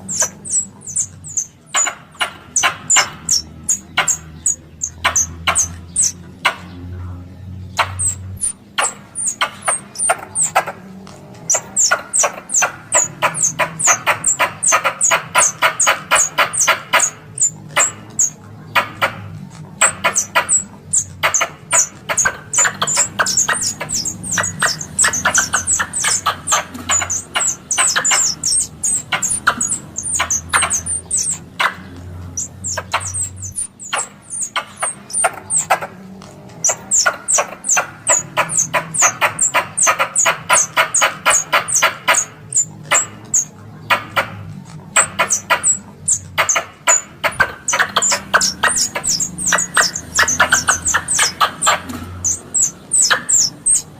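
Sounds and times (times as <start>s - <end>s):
squirrel chattering: 0.0s - 53.9s.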